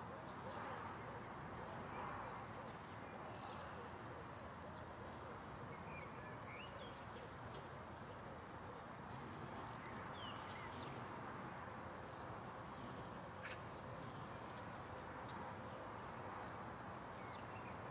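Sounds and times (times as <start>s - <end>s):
low background noise: 0.0s - 17.9s.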